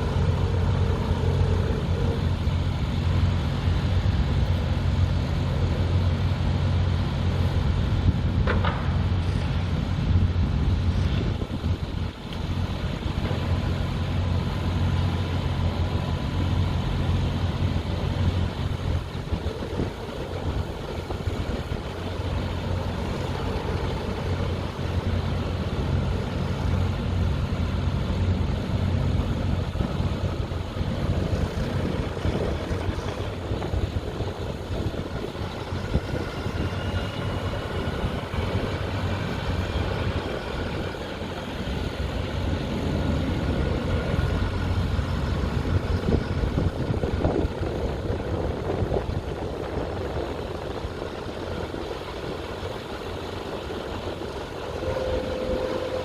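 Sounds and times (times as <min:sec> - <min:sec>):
faint whine: 0:00.0 - 0:56.0
large engine low rumble: 0:00.0 - 0:56.0.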